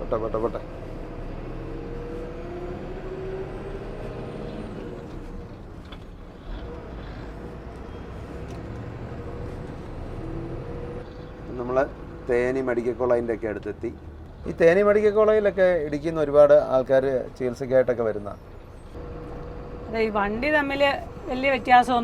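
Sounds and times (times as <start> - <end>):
lorry diesel engine rumble: 0.0 - 22.0.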